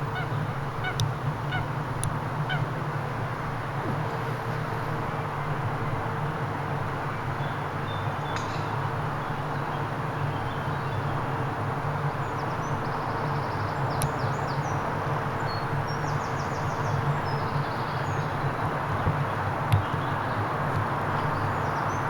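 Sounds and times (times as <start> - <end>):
outdoor rumble and hiss: 0.0 - 22.0.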